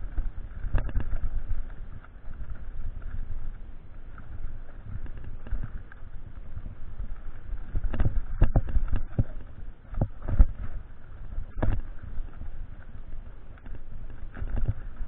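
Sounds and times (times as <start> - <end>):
tyres rumbling and wind: 0.0 - 15.0.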